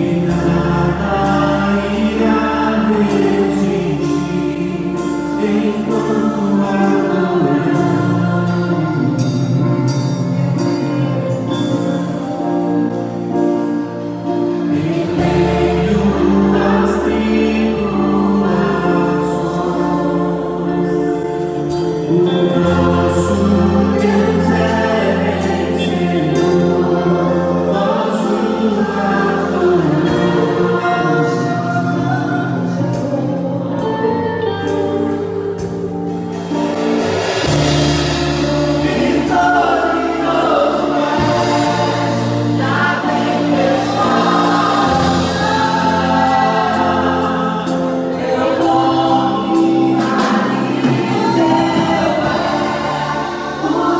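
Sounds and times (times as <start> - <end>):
band with sustained bass: 0.0 - 53.9
voices singing together: 0.0 - 53.9.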